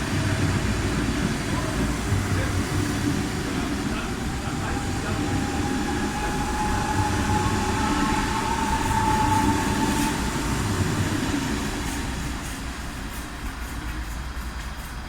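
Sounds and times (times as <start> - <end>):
train rumble with electric whine: 0.0 - 15.0.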